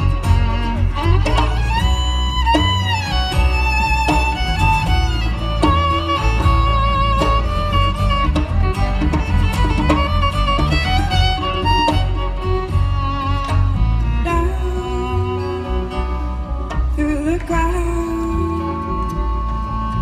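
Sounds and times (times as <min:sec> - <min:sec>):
fiddle melody with vibrato: 0:00.0 - 0:20.0
strummed acoustic guitar: 0:00.0 - 0:20.0
upright bass: 0:00.0 - 0:20.0.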